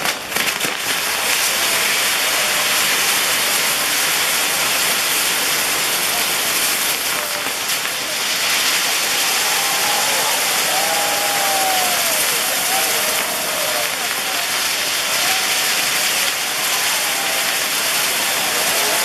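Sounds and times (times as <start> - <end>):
fireworks hissing: 0.0 - 19.0.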